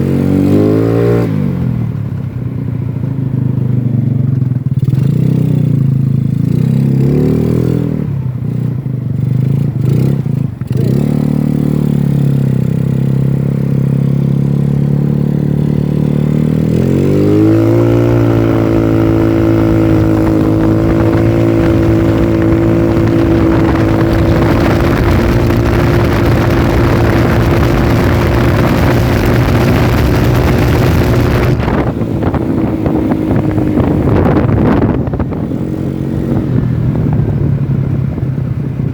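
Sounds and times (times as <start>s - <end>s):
scooter engine revving: 0.0s - 38.9s.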